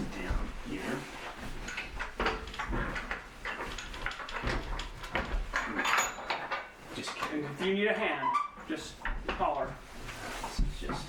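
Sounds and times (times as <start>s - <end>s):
wooden parts knocking and clattering: 0.0s - 9.8s.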